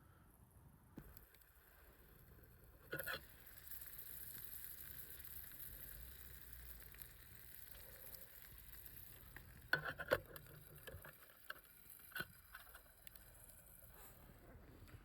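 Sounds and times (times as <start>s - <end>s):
campfire hiss and crackle: 0.6s - 15.0s.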